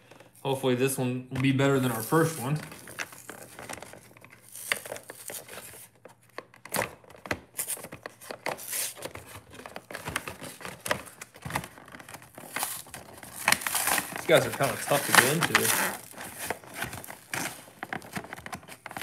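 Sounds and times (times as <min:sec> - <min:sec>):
cardboard packaging crinkling and tearing: 0:01.3 - 0:19.0.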